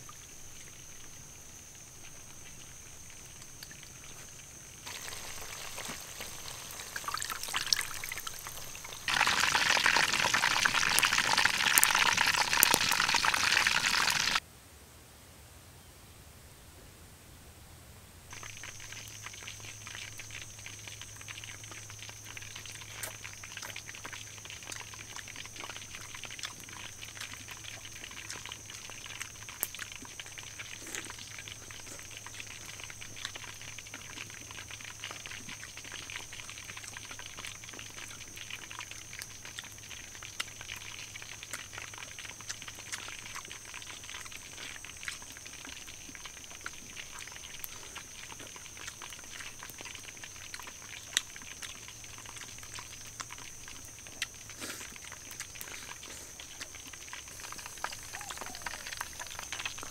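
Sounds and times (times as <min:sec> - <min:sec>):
wood fire crackling: 0:00.0 - 0:14.4, 0:18.3 - 0:59.9.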